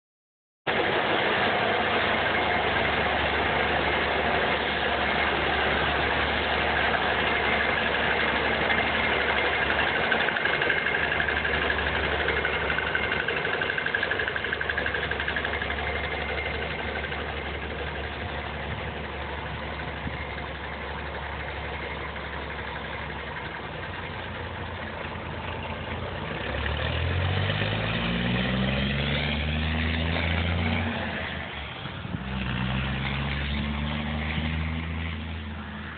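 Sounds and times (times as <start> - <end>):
truck engine running: 0.7 - 35.9.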